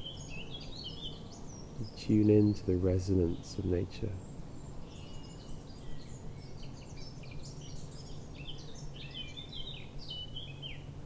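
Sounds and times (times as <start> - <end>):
birds singing: 0.0 - 11.0
low background hum: 0.0 - 11.0.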